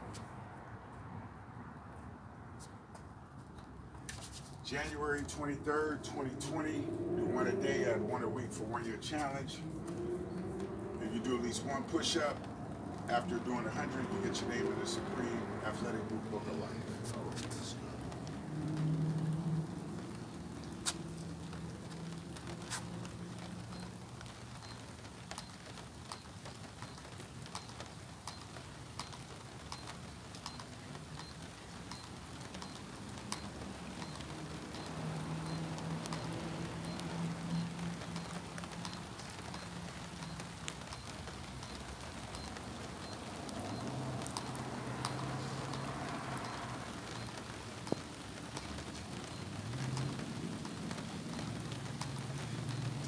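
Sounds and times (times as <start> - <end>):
rain on pavement: 0.0 - 53.0.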